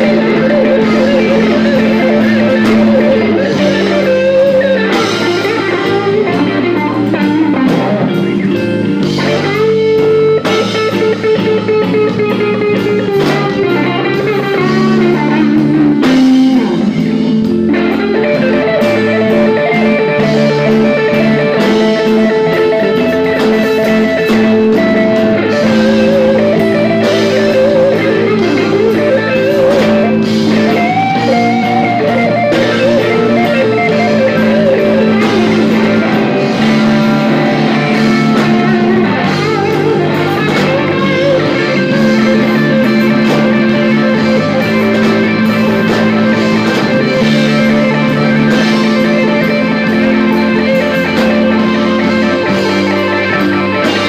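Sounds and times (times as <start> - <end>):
drums: 0.0 - 54.0
electric guitar lead: 0.0 - 54.0
live blues band: 0.0 - 54.0.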